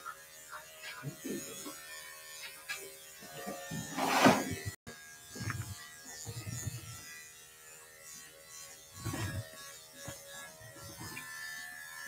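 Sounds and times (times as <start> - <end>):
electric clippers buzzing: 0.0 - 12.0.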